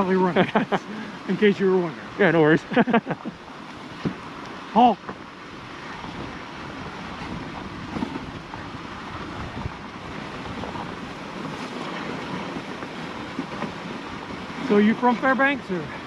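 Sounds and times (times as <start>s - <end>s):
sled runners hissing on snow: 0.0s - 5.0s, 5.6s - 16.0s
wind on microphone: 1.9s - 16.0s.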